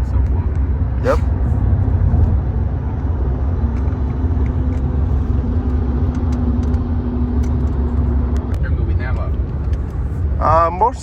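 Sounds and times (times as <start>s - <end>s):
car rumbling: 0.0s - 11.0s.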